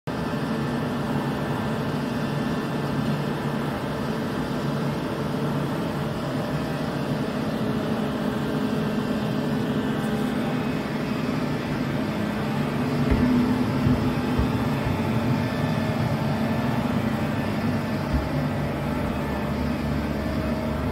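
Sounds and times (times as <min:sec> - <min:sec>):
machinery humming: 0:00.1 - 0:20.9.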